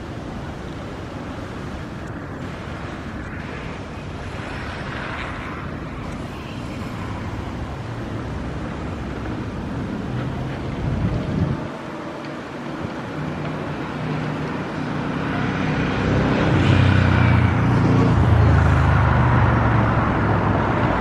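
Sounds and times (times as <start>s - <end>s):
motor traffic rumble: 0.0s - 21.0s.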